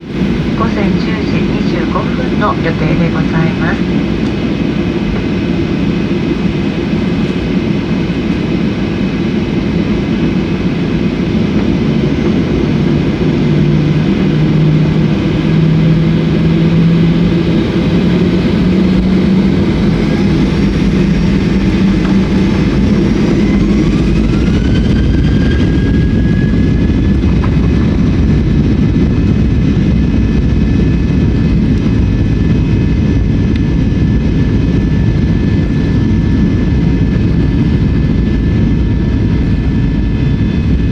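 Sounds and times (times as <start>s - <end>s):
jet engines spooling up: 0.0s - 40.9s
rising engine whine: 0.0s - 40.9s.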